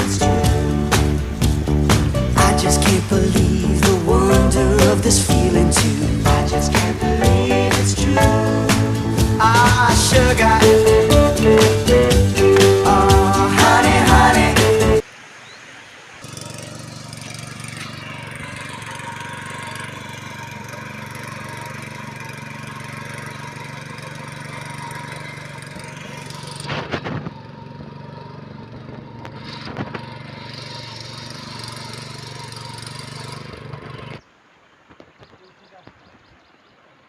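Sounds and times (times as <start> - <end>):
tiller engine running: 0.0 - 15.0, 16.2 - 34.2.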